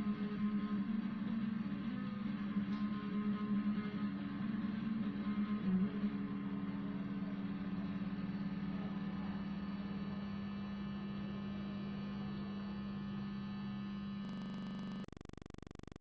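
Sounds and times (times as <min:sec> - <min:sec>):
distorted electric guitar note: 0:00.0 - 0:10.4, 0:11.1 - 0:16.0.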